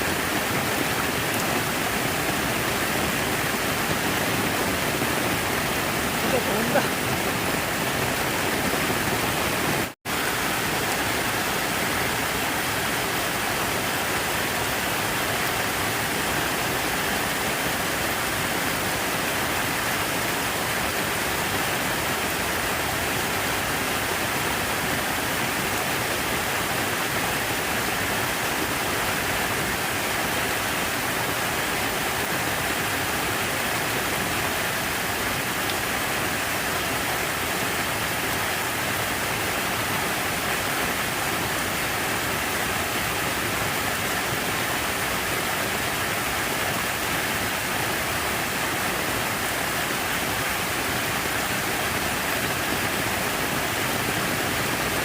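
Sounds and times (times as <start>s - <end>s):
rush of falling water: 0.0s - 55.0s.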